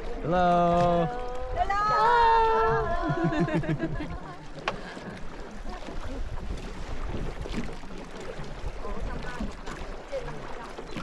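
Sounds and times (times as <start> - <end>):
small boat moving on water: 0.0 - 11.0.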